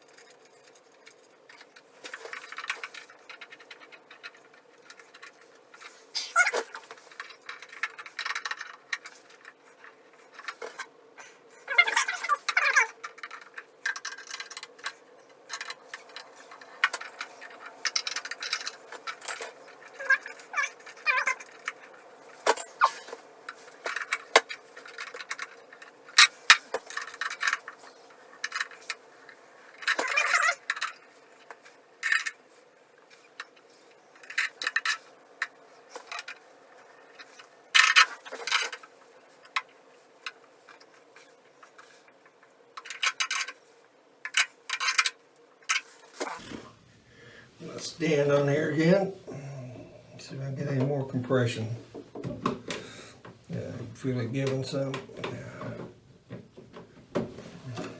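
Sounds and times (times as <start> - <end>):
small parts and tools clinking: 0.0 - 46.5
clatter of parts: 0.0 - 46.6
faint steady hum: 0.0 - 57.9.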